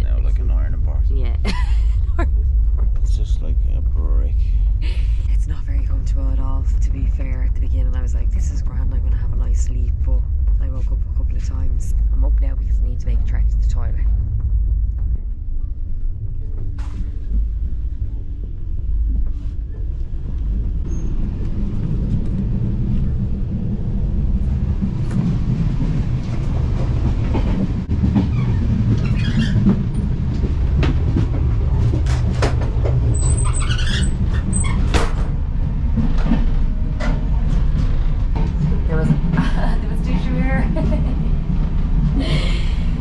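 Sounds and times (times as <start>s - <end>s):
train carriage rumble: 0.0s - 43.0s
rattles and clacks: 5.5s - 43.0s.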